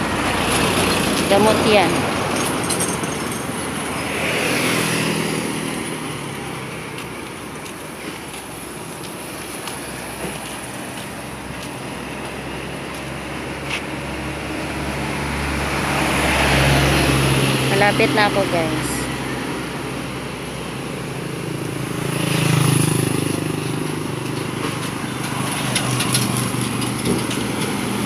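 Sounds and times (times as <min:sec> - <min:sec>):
vehicle passing: 0:00.0 - 0:28.0.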